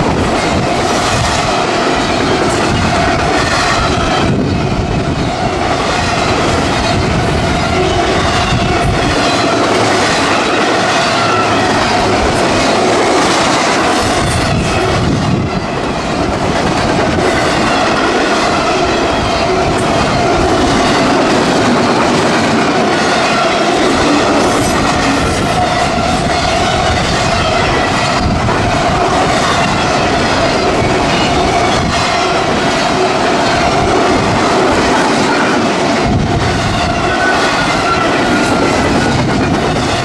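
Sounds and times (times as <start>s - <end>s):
freight train rolling past: 0.0s - 40.0s.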